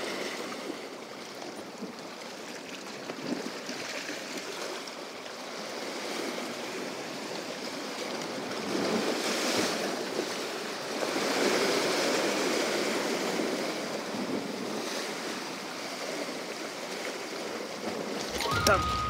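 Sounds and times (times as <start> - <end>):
waves breaking on rocks: 0.0 - 19.0.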